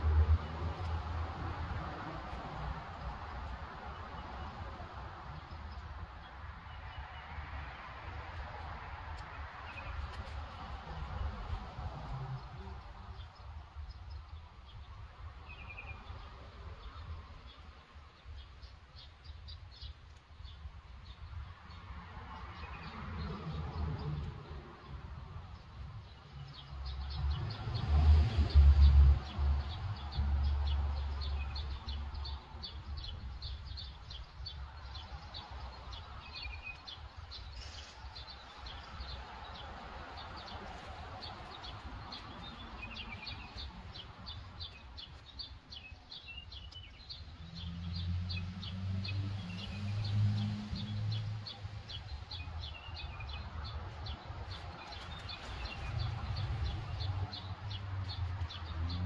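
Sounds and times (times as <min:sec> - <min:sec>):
small birds chirping: 0:00.3 - 0:59.0.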